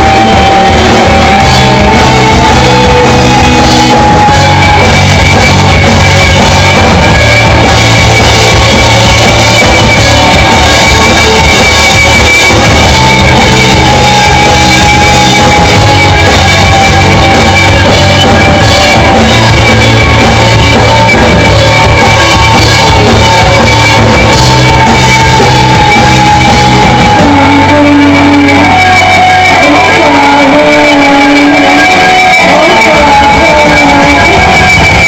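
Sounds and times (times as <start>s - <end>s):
distorted electric guitars: 0.0s - 35.0s
drum kit: 0.0s - 35.0s.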